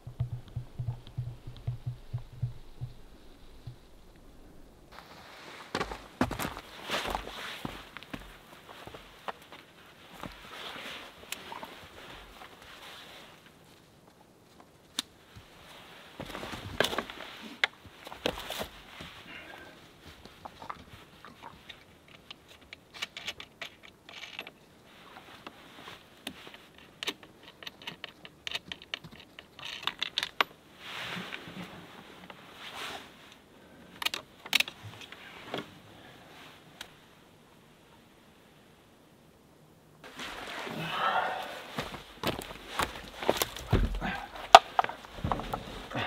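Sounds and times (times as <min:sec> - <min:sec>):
rustling: 0:00.0 - 0:37.2, 0:40.0 - 0:46.0.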